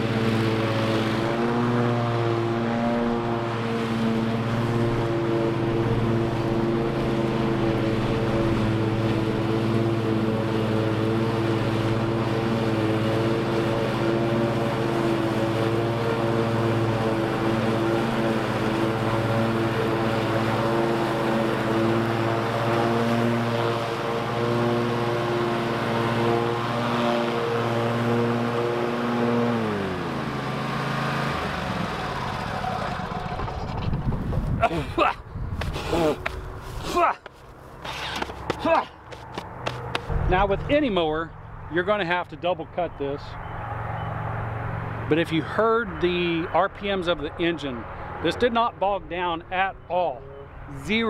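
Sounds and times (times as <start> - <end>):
lawn mower engine running: 0.0 - 51.0
mower deck cutting grass: 0.0 - 51.0.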